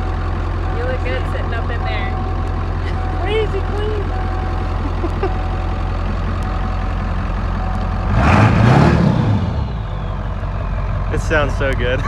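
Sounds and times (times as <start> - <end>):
diesel engine idling and revving: 0.0 - 12.0.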